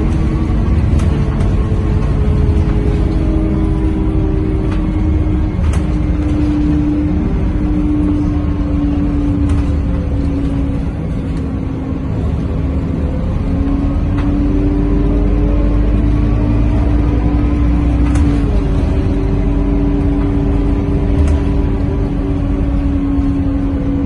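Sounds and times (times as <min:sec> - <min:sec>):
bus engine rumble and whine: 0:00.0 - 0:24.0.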